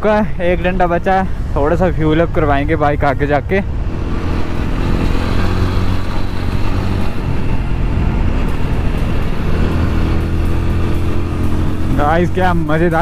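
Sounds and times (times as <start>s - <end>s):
road noise: 0.0s - 13.0s
motorcycle engine cruising: 2.2s - 13.0s.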